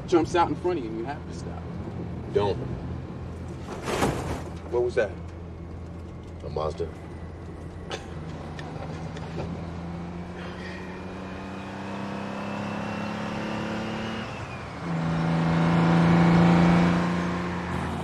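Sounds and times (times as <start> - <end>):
diesel truck engine droning: 0.0 - 18.0.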